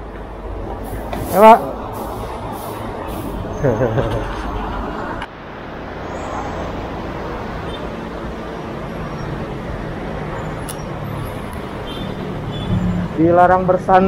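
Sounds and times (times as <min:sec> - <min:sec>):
busy road traffic: 0:00.0 - 0:14.0
motorbikes passing: 0:00.1 - 0:14.0.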